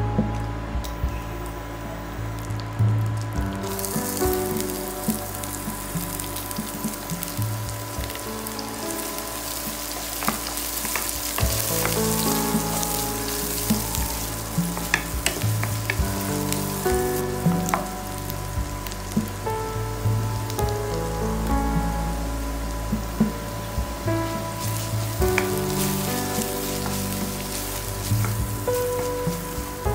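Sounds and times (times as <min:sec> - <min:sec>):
onions sizzling in hot oil: 0:03.1 - 0:29.9.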